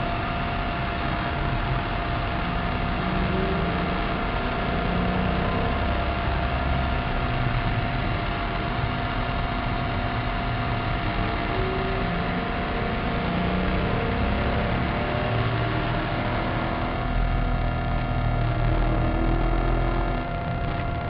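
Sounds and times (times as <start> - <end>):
car engine drone at speed: 0.0 - 21.0.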